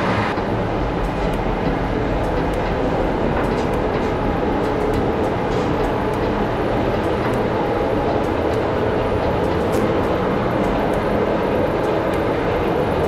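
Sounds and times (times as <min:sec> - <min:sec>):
mill machinery running: 0:00.0 - 0:13.0.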